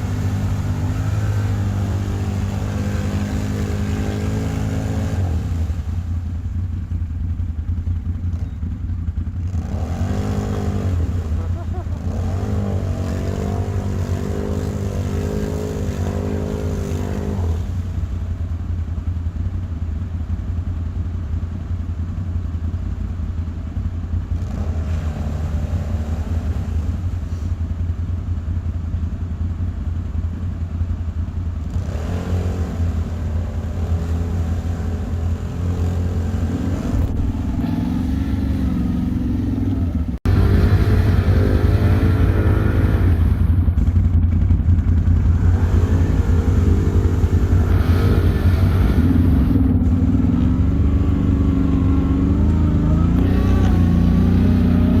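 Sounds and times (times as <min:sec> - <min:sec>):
quad bike engine rumbling: 0:00.0 - 0:55.0.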